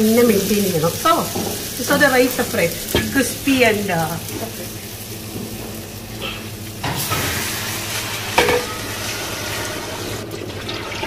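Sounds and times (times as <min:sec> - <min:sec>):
rice sizzling in a pot: 0:00.0 - 0:11.0.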